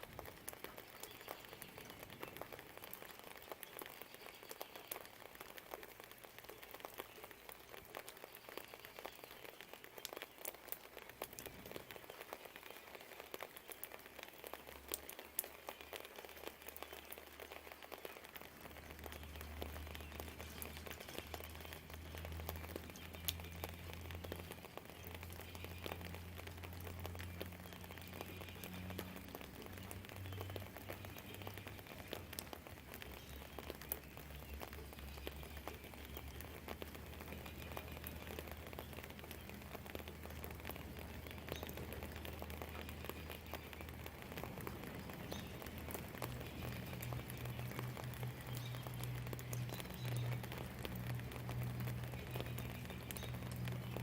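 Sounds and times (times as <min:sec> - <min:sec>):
light rain falling: 0:00.0 - 0:54.0
raindrops ticking on surfaces: 0:00.0 - 0:54.0.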